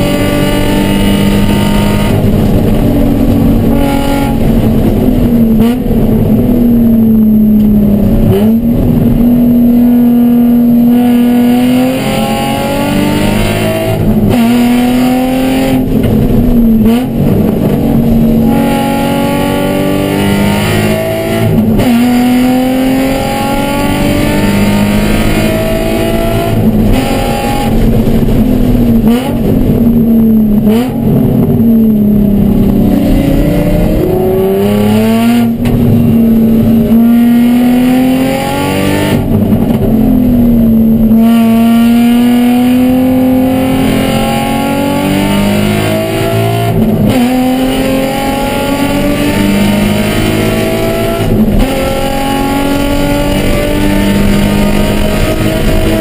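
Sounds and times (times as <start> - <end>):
car engine revving and shifting: 0.0 - 56.0.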